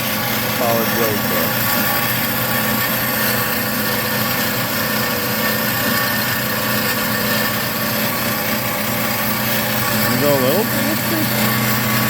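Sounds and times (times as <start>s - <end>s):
bandsaw running: 0.0s - 12.0s.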